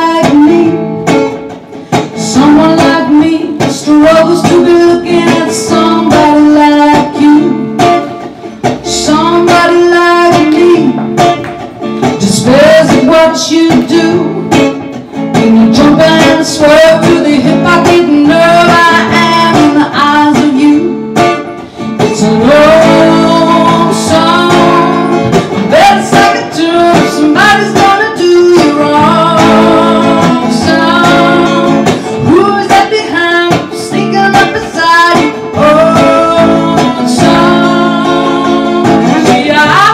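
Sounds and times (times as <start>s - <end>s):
woman singing: 0.0s - 1.2s, 2.0s - 11.4s, 12.0s - 39.9s
electric guitar playing: 0.0s - 39.9s.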